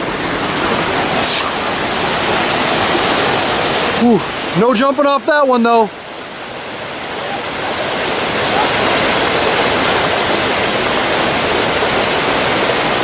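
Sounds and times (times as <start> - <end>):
water rushing over rock: 0.0 - 13.0.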